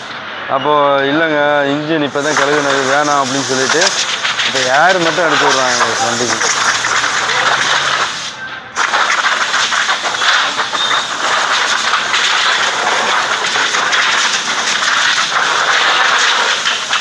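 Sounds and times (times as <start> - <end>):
compressed air blow gun hissing: 2.1 - 17.0.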